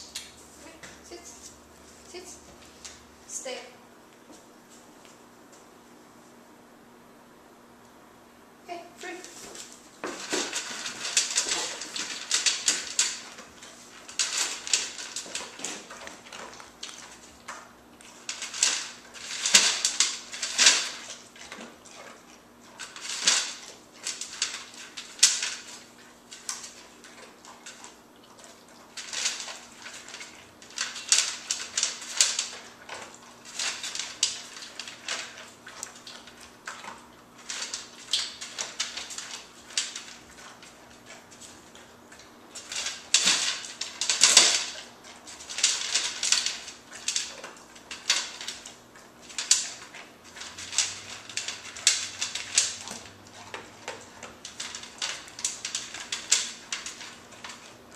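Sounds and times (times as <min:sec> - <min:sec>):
dog chewing and crunching: 0:09.3 - 0:57.9.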